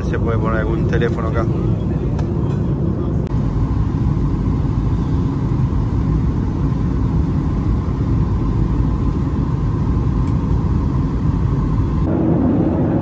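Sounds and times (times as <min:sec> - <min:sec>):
airliner engine and airflow rumble: 0:00.0 - 0:13.0.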